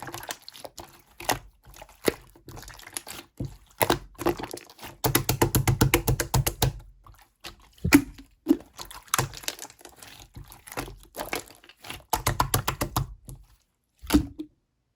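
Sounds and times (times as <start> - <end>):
slime squishes: 0.0 - 14.9.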